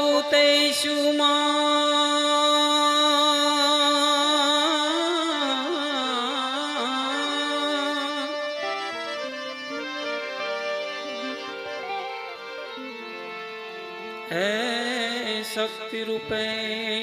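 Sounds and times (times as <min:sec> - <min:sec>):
harmonium: 0:00.0 - 0:17.0
man singing: 0:00.0 - 0:17.0.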